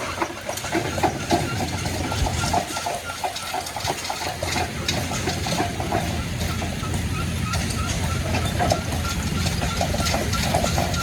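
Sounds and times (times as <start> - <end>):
old engine idling: 0.0 - 11.0.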